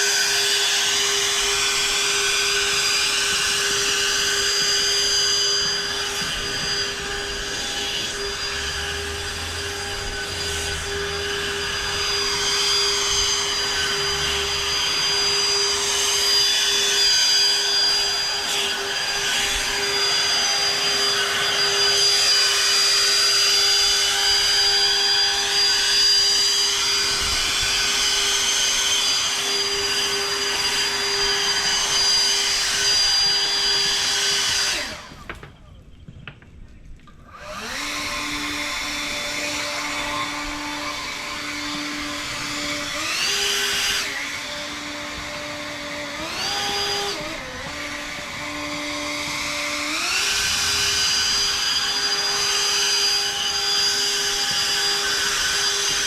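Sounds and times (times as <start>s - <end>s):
electric motor whine: 0.0s - 35.5s, 37.3s - 56.0s.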